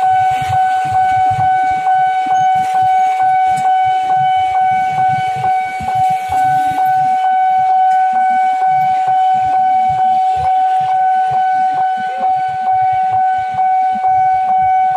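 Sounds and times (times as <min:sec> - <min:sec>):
level crossing alarm: 0:00.0 - 0:14.9
low traffic rumble: 0:00.0 - 0:14.9.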